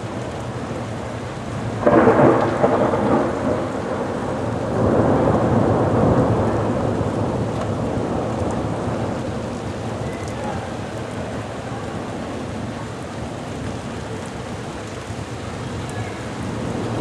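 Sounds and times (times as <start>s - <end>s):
heavy rain: 0.0s - 17.0s
thunder crack and rumble: 1.6s - 17.0s.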